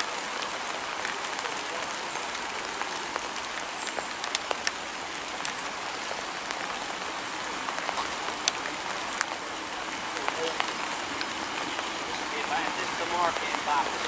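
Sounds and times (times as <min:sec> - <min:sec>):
raindrops ticking close by: 0:00.0 - 0:14.0
steady rain falling: 0:00.0 - 0:14.0.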